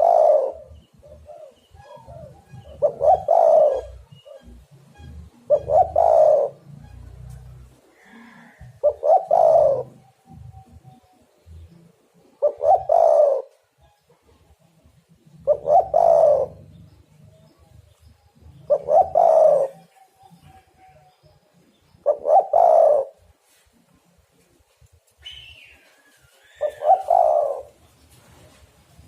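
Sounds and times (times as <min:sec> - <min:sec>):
dove cooing: 0:00.0 - 0:14.4, 0:15.2 - 0:17.7, 0:18.3 - 0:21.3, 0:22.0 - 0:23.3, 0:25.2 - 0:27.8.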